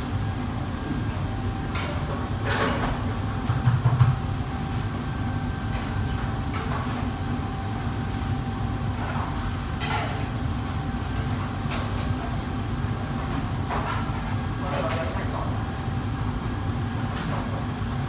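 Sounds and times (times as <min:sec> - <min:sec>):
kitchen ventilation roar: 0:00.0 - 0:18.0.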